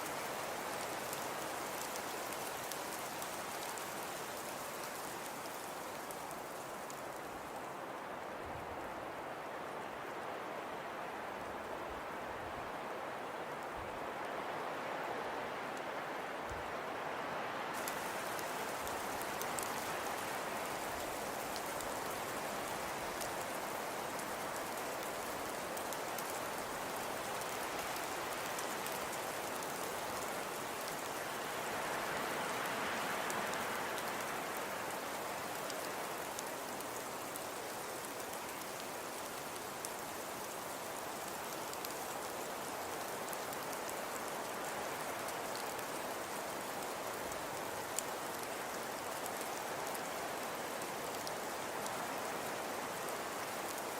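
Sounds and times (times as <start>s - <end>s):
fireplace fire crackling: 0.0s - 10.2s, 15.3s - 53.9s.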